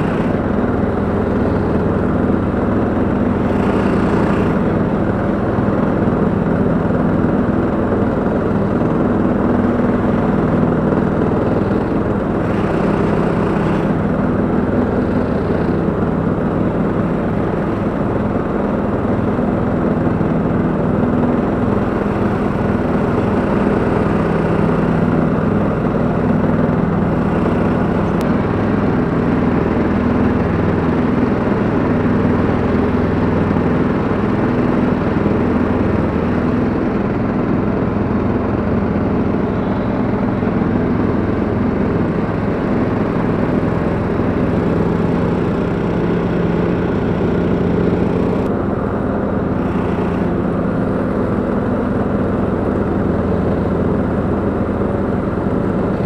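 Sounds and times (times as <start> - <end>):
flail mower cutting grass: 0.0 - 56.0
lawn tractor engine running: 0.0 - 56.0.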